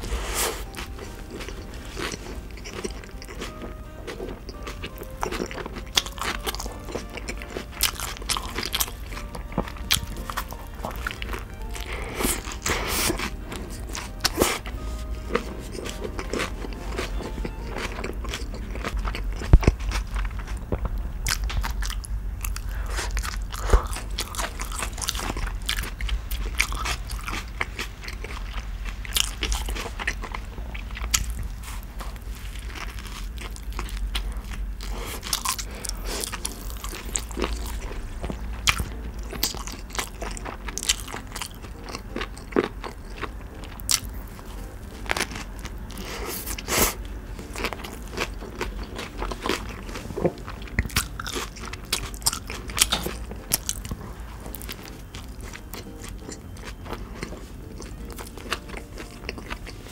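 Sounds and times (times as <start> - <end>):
wet chewing with crunches: 0.0 - 59.9.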